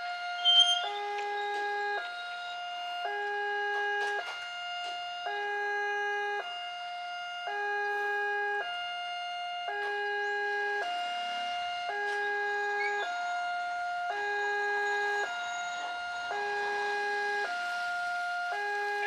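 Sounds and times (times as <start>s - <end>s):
level crossing two-tone alarm: 0.0s - 19.0s.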